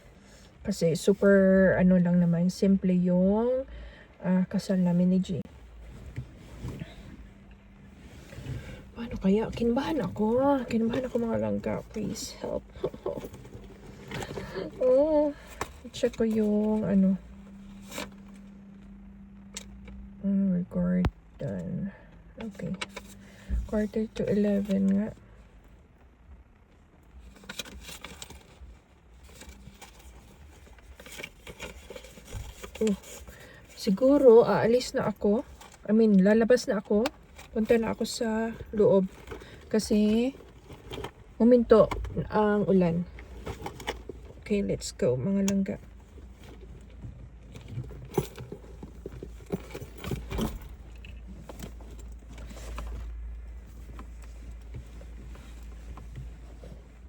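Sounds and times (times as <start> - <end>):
low steady hum: 0.0 - 57.0
steady low rumble: 0.0 - 57.0.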